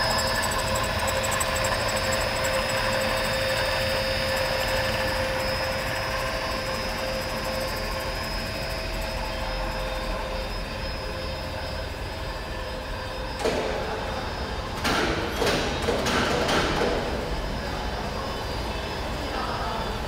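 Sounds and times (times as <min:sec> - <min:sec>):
machine humming with high whine: 0:00.0 - 0:20.0.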